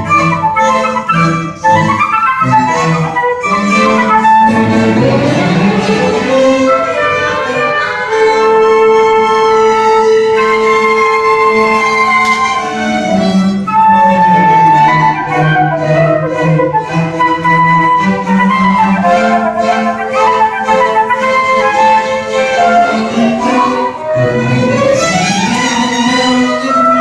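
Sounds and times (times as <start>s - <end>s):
bowed strings: 0.0s - 27.0s
flute melody: 0.0s - 27.0s.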